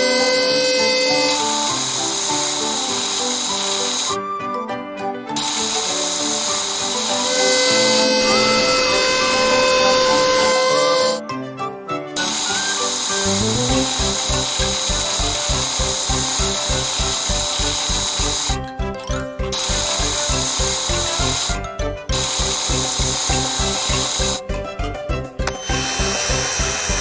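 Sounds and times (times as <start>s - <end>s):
power tool whirring: 0.0s - 4.2s, 5.4s - 11.2s, 12.2s - 18.6s, 19.5s - 24.4s, 25.4s - 27.0s
cartoon background music: 0.0s - 27.0s.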